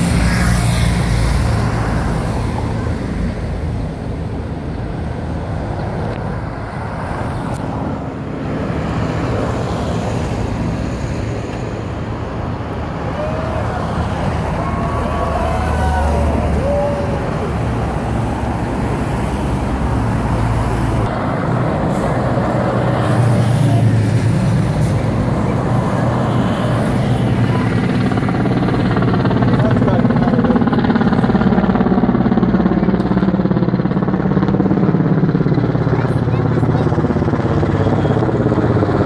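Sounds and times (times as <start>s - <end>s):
helicopter rotor beat: 0.0s - 39.0s
traffic passing: 0.0s - 39.0s.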